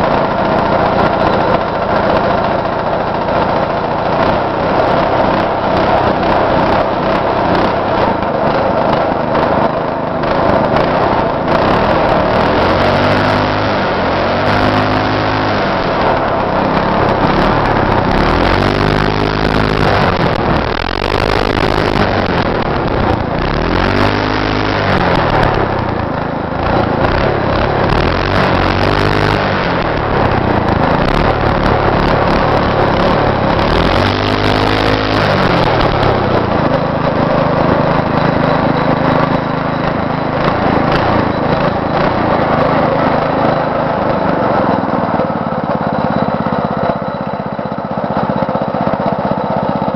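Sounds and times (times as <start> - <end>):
go-kart engine revving: 0.0 - 49.9.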